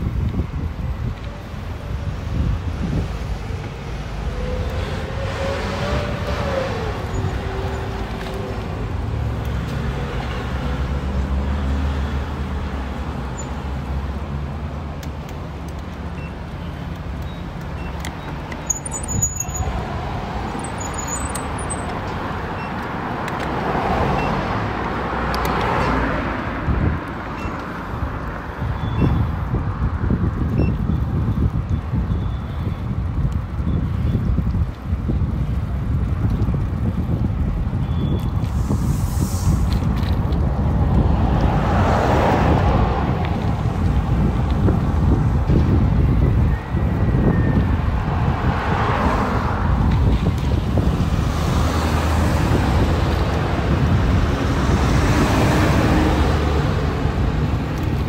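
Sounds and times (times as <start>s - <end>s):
passing vehicles: 0.0s - 58.0s.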